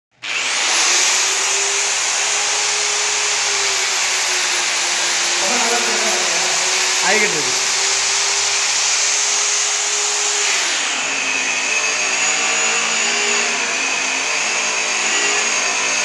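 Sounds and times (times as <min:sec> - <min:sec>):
electric polisher whining: 0:00.2 - 0:16.0.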